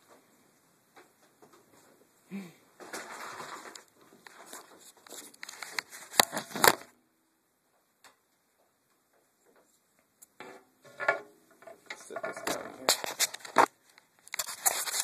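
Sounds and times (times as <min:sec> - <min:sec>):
rustling: 0:00.0 - 0:07.0, 0:08.4 - 0:15.0.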